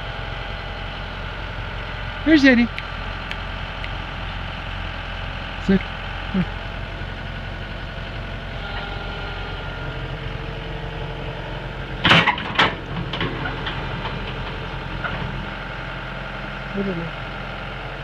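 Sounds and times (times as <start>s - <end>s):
excavator diesel engine idling: 0.0s - 18.0s.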